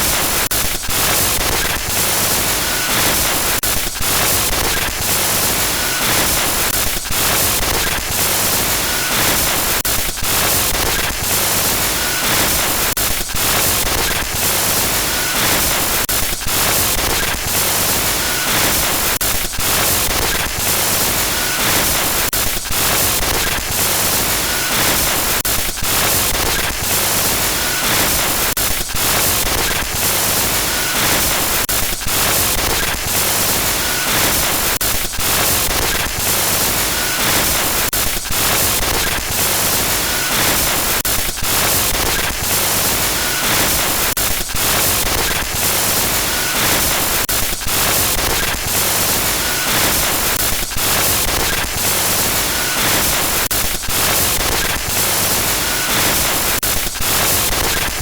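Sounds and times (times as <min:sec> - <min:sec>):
glitchy static noise: 0:00.0 - 0:58.0.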